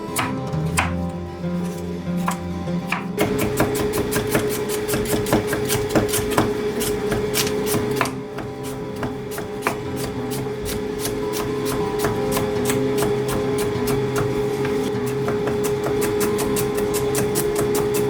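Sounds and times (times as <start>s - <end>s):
knife chopping on cutting board: 0.1s - 1.1s, 1.7s - 18.0s.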